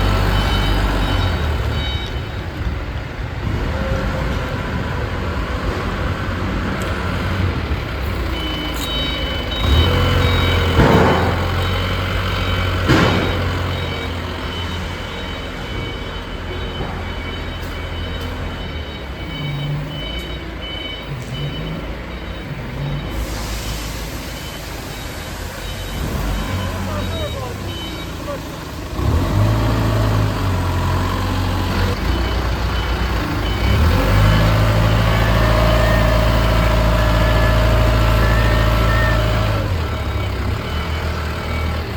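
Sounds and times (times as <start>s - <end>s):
reversing alarm beeping: 0.0s - 41.9s.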